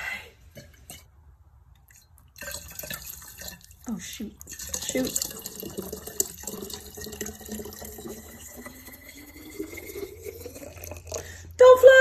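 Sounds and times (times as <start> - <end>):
liquid pouring into a jug: 1.9 - 11.5.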